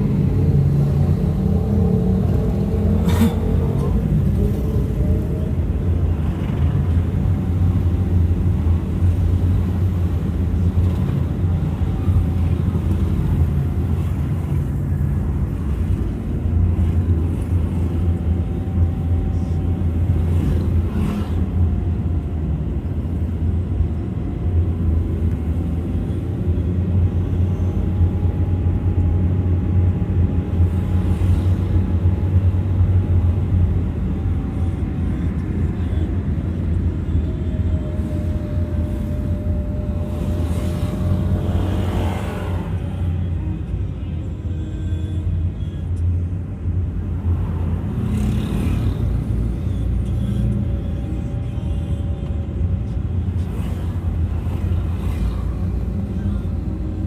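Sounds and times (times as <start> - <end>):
vehicle engine and road noise: 0.0 - 57.0
faint whine: 2.2 - 57.0.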